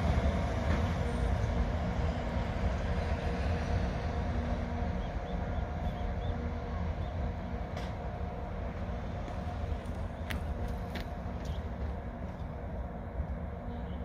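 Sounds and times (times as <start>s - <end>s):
electric locomotive rumbling: 0.0s - 14.0s.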